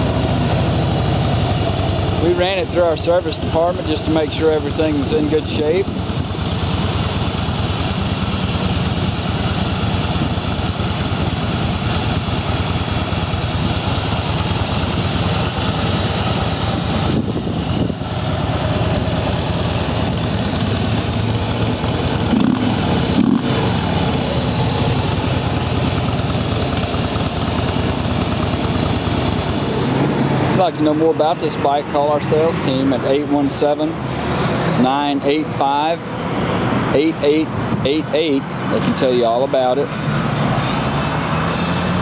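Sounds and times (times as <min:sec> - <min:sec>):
motorcycle engine idling: 0:00.0 - 0:34.1.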